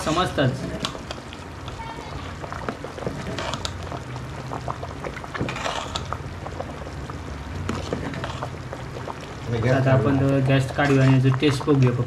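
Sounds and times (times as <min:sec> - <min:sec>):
curry bubbling with small pops: 0:00.0 - 0:12.0
ladle stirring and splashing: 0:00.0 - 0:12.0.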